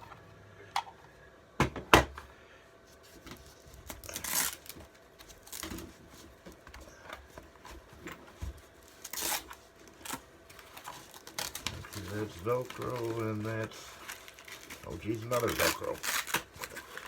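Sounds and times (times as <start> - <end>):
packaging rustling and tearing: 3.0 - 17.0.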